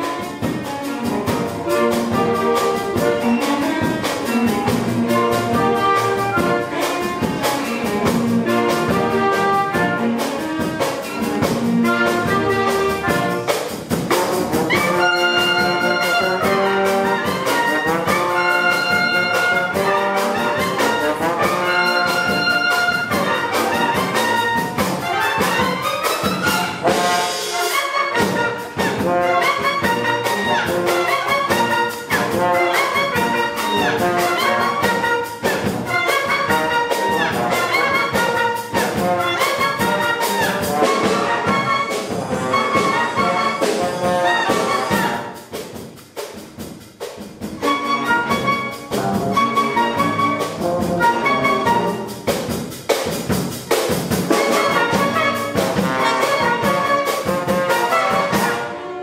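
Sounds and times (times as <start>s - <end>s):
brass playing: 0.0s - 45.6s, 47.4s - 52.7s, 53.7s - 59.0s
orchestra playing: 0.0s - 59.0s.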